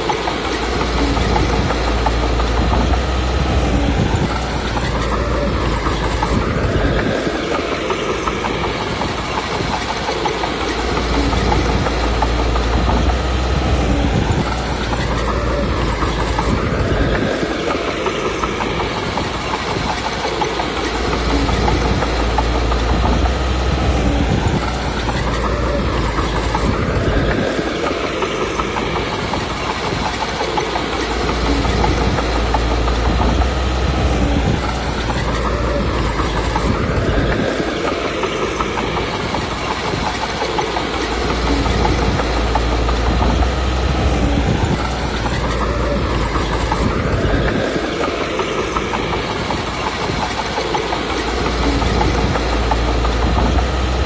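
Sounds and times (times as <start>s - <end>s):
bulldozer diesel engine under load: 0.0s - 54.0s
steel tracks clanking: 0.0s - 54.0s.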